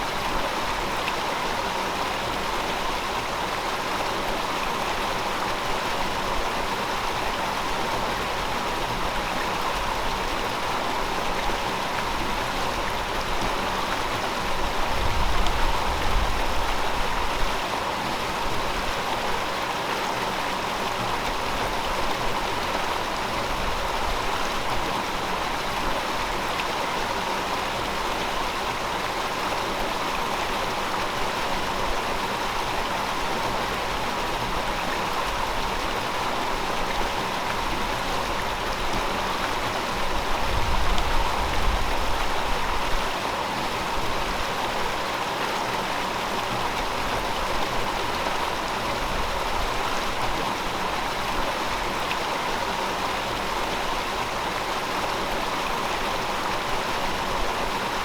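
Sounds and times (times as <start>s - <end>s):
river water over rocks: 0.0s - 58.0s.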